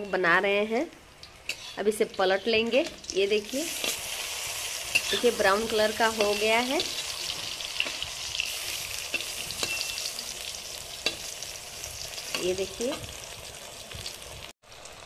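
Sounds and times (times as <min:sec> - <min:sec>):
slices sizzling in hot oil: 0:01.2 - 0:15.0.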